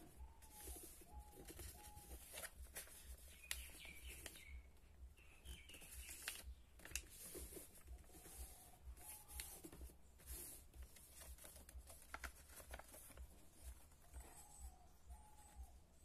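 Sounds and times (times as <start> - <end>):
paper rustling and crinkling: 0.0 - 4.8, 5.4 - 16.0.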